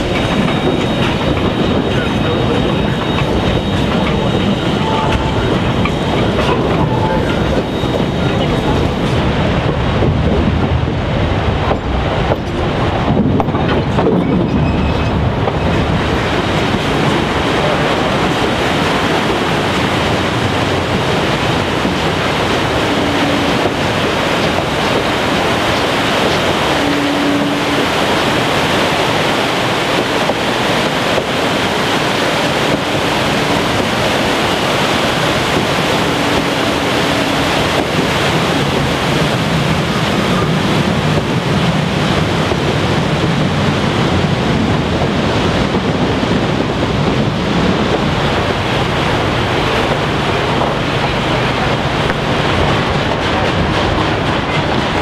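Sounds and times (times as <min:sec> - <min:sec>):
train rolling: 0:00.0 - 0:55.0
wind on microphone: 0:00.0 - 0:55.0.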